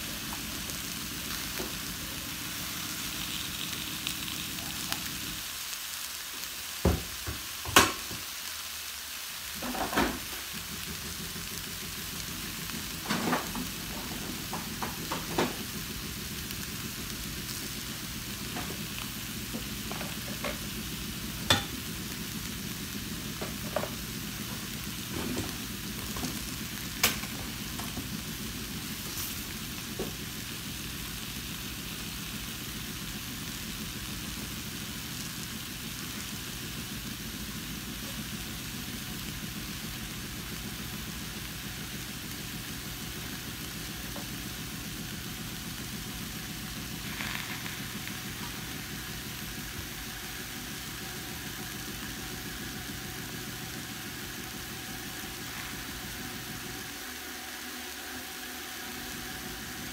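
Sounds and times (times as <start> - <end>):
food sizzling in a pot: 0.0 - 59.9.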